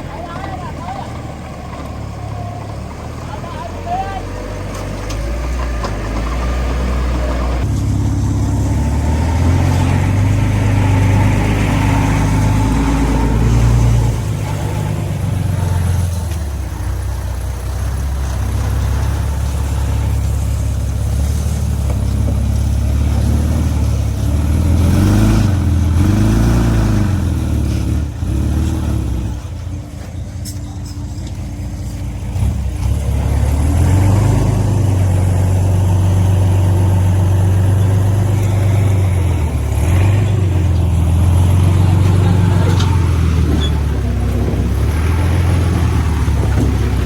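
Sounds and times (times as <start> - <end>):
heavy diesel engine revving: 0.0 - 47.0.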